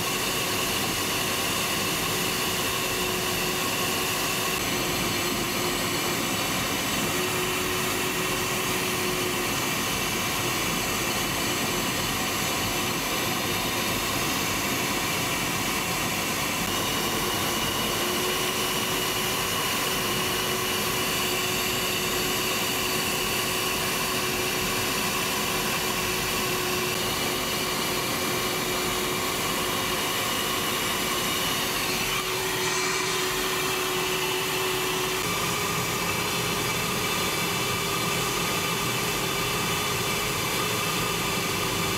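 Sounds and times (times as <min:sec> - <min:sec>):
cockpit airflow and engine roar: 0:00.0 - 0:41.9
steady whining tones: 0:00.0 - 0:41.9.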